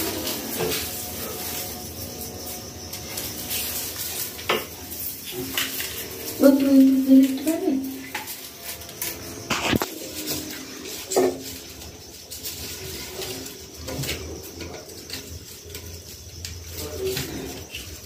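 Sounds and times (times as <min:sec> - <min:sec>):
dry straw rustling and crackling: 0:00.0 - 0:18.0.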